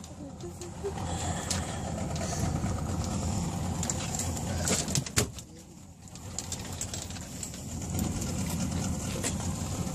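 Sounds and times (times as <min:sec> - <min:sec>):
low rumble on a boat: 0:00.0 - 0:09.9.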